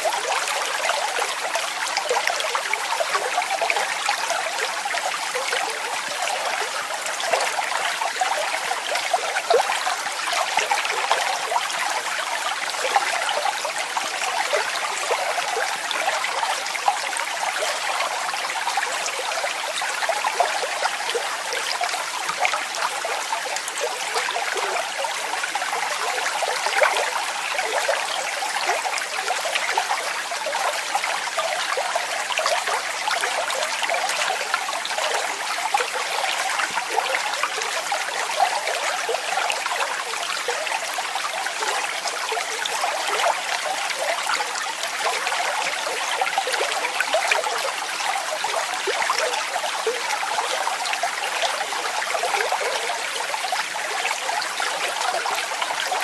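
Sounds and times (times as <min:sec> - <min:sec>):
stream splashing and gurgling: 0:00.0 - 0:56.0.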